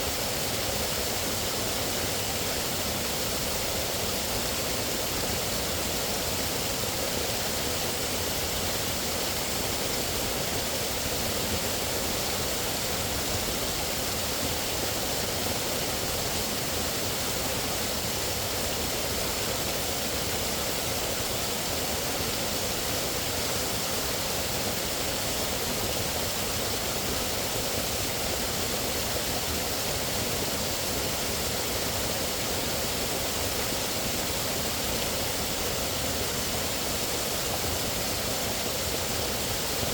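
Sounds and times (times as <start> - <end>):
outdoor nature rushing noise: 0.0 - 39.9.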